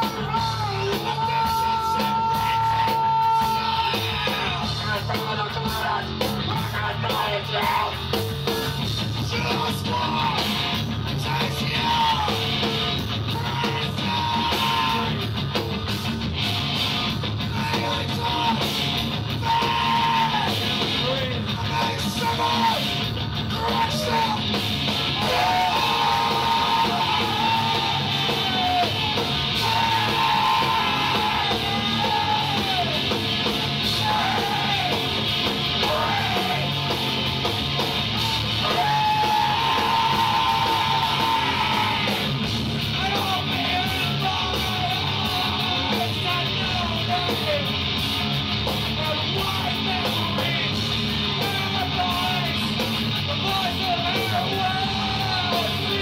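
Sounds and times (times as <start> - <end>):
singer yelling vocals: 0.0 - 15.3, 17.4 - 37.0, 38.0 - 47.9, 48.8 - 56.0
live rock band playing: 0.0 - 56.0.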